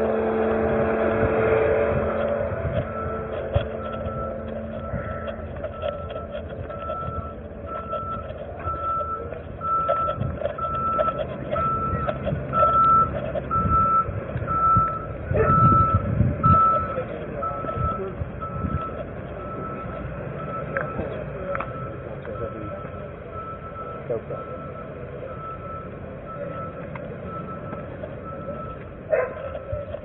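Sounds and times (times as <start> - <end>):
low vehicle rumble: 0.0 - 30.0
reversing alarm beeping: 1.8 - 30.0.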